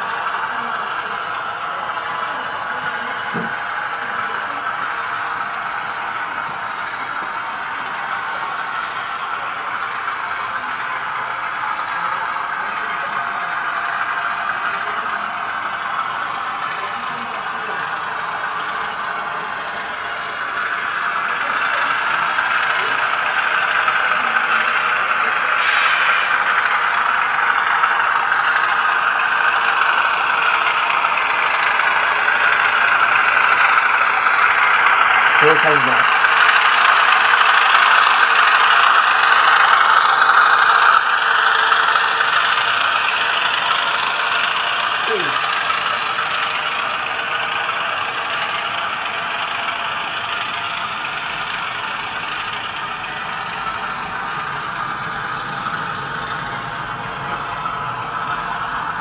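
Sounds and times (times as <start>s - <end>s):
model locomotive engine sound: 0.0s - 59.0s.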